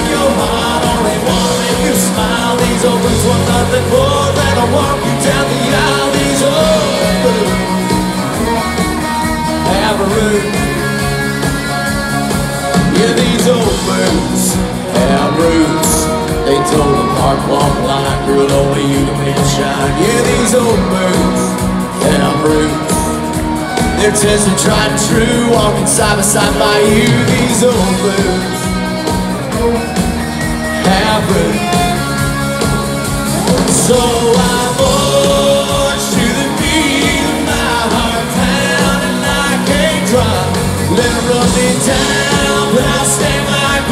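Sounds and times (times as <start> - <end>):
live country band playing: 0.0 - 43.9
man singing lead: 0.0 - 43.9.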